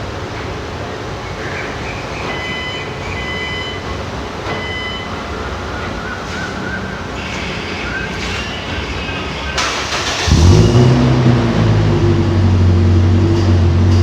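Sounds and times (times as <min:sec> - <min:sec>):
vehicle engine and road noise: 0:02.2 - 0:14.0.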